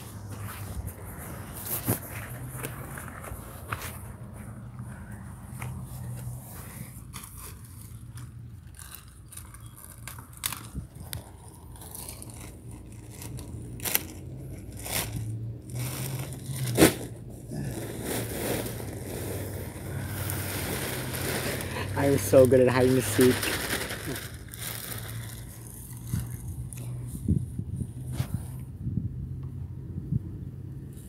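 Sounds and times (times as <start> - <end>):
scraping and rustling: 0.0 - 27.4.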